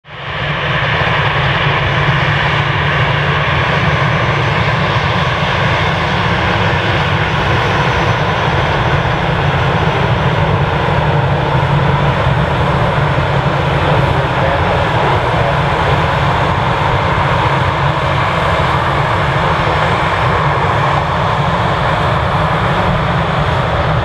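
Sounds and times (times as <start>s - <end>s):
jet engines running: 0.1s - 24.0s.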